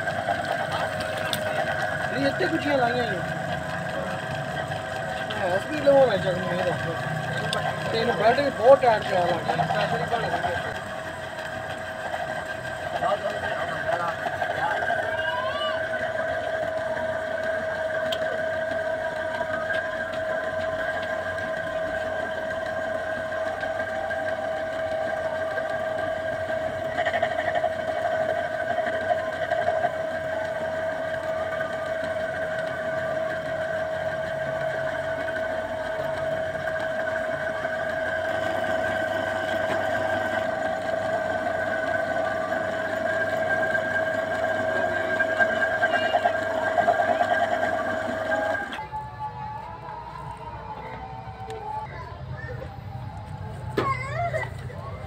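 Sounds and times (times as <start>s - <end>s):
potter's wheel motor whine: 0.0s - 55.0s.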